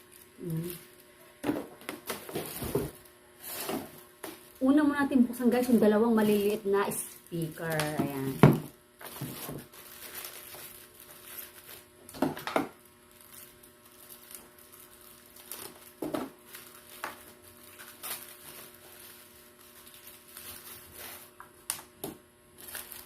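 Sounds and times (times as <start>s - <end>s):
faint steady hum: 0.0s - 23.0s
packaging knocks and rustles: 1.4s - 4.6s, 7.4s - 23.0s.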